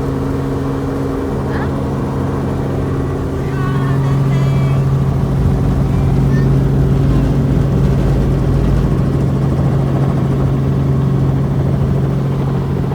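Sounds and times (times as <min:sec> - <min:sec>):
helicopter engine and rotor: 0:00.0 - 0:12.9.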